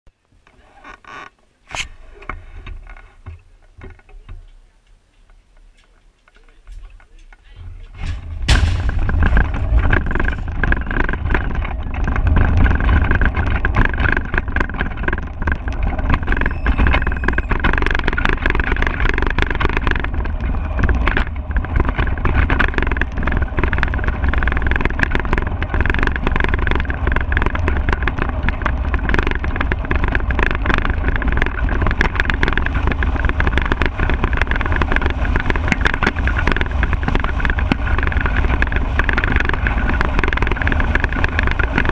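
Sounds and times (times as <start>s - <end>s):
wheels rumbling on asphalt: 0.1s - 41.9s
chassis rattling: 5.2s - 41.9s.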